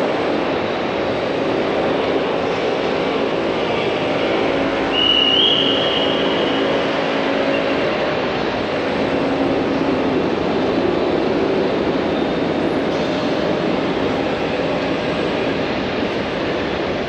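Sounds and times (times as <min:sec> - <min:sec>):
passing car traffic: 0:00.0 - 0:17.0.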